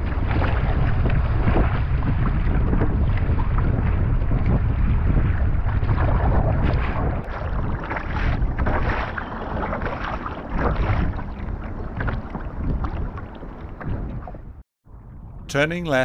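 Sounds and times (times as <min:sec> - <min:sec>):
waves slapping against kayak: 0:00.0 - 0:14.6
wind buffeting microphone: 0:00.0 - 0:16.0.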